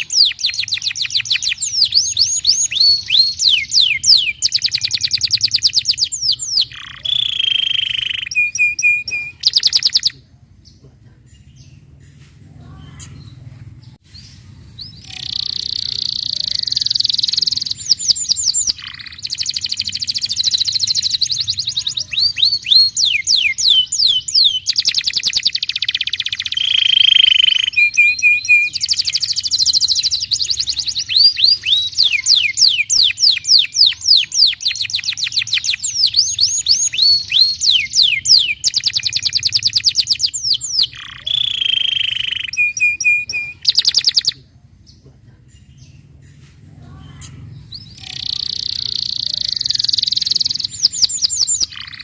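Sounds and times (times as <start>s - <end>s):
canary singing: 0.0s - 10.2s, 12.6s - 44.4s, 46.9s - 52.0s.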